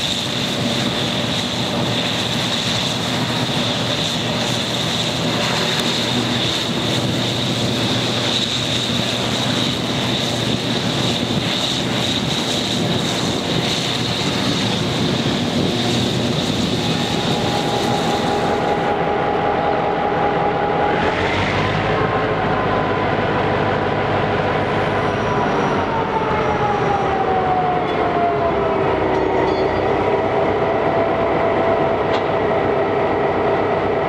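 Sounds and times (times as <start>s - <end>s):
diesel locomotive engine: 0.0s - 34.0s
steady high whine: 0.0s - 34.0s.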